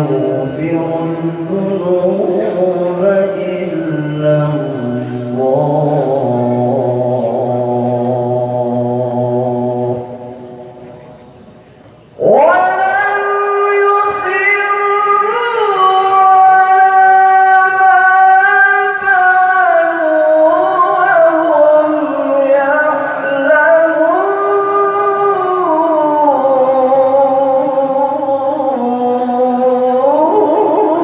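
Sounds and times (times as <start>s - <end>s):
person reciting melodically: 0.0s - 31.0s.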